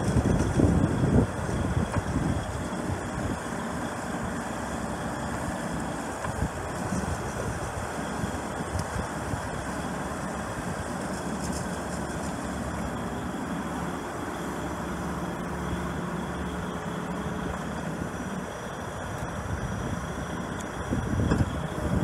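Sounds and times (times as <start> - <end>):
diesel engine running: 0.0 - 22.0
hydraulics whirring: 0.0 - 22.0.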